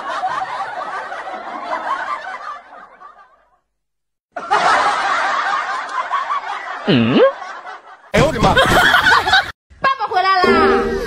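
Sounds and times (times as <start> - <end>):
canned crowd laughter: 0.0 - 3.6, 4.3 - 9.6.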